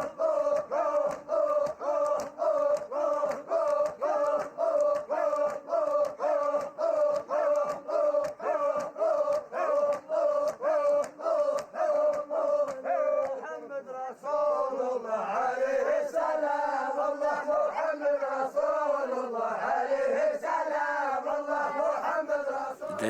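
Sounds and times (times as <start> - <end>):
group of voices chanting: 0.0 - 23.0.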